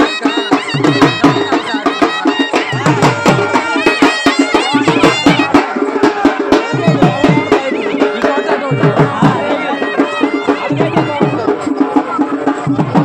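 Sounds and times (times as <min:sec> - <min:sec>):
fast drums beating: 0:00.0 - 0:13.0.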